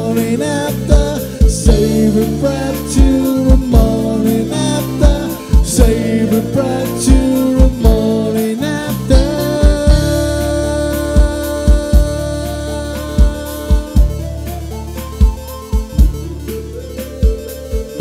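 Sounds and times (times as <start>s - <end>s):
man singing lead vocal: 0.0s - 14.6s
bass guitar: 0.0s - 18.0s
drum kit steady beat: 0.0s - 18.0s
electric guitar: 0.0s - 18.0s
keyboard: 0.0s - 18.0s.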